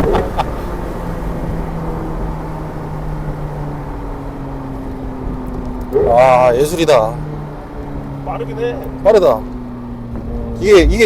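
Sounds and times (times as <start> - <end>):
car engine running inside cabin: 0.0 - 11.0.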